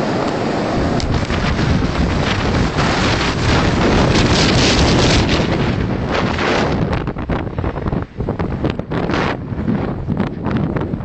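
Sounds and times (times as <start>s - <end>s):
blizzard wind buffeting microphone: 0.0s - 11.0s.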